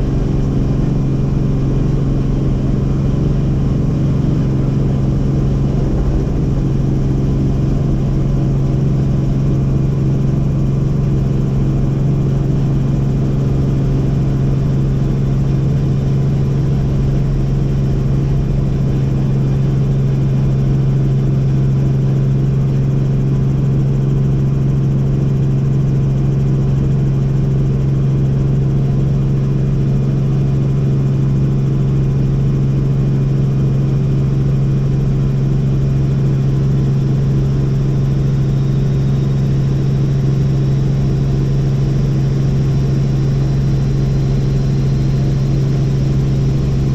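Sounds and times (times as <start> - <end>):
helicopter engine and rotors: 0.0 - 46.9.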